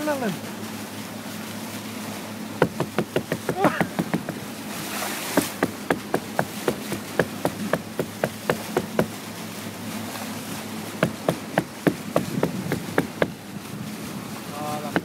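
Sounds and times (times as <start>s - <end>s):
boat engine knocking slowly: 0.0s - 15.0s.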